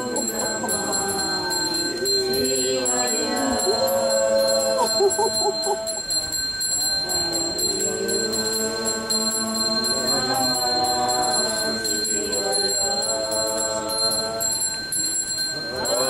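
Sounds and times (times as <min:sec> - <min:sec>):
person singing drawn-out notes: 0:00.0 - 0:14.8
small bell ringing: 0:00.0 - 0:16.0.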